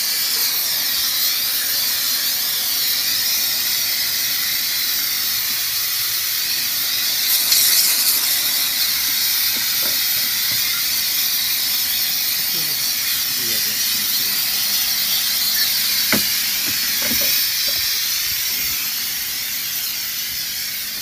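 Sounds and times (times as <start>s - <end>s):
steam jet hissing: 0.0s - 21.0s.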